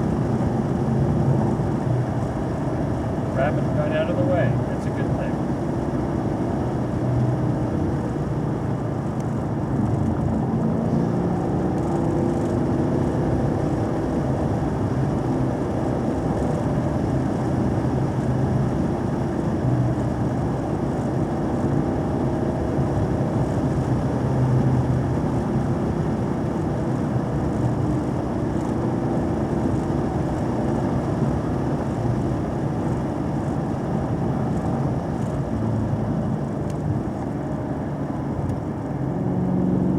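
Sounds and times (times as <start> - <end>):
car engine running: 0.0 - 39.9
road and tyre noise: 0.0 - 39.9.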